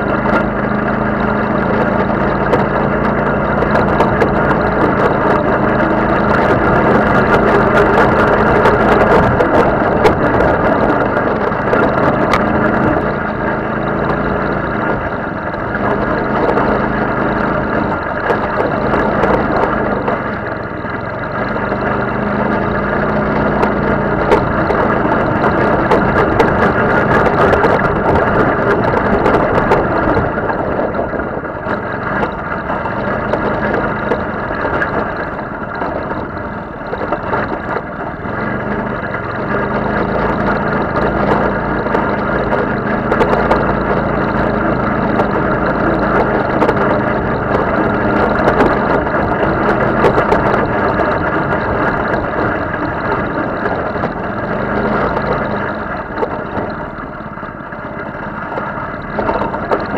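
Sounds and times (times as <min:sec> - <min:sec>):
buggy engine revving: 0:00.0 - 0:59.9
clicks and knocks from bumps: 0:00.0 - 0:59.9.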